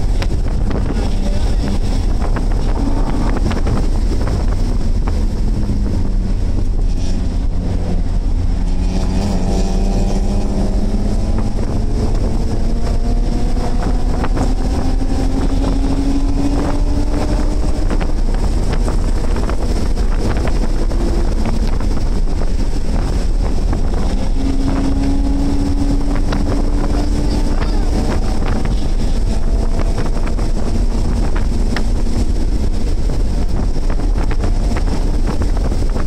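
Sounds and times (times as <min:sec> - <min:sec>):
race car engine accelerating: 0:00.0 - 0:36.0
road and wind noise: 0:00.0 - 0:36.0.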